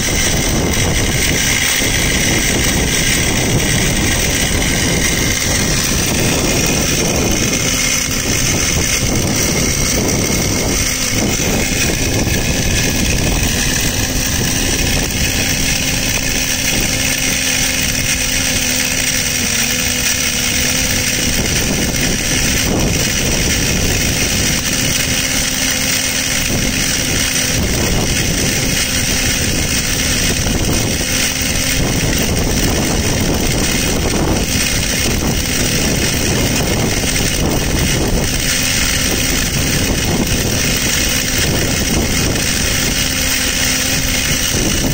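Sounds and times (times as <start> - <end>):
machine drone with hiss: 0.0 - 44.9.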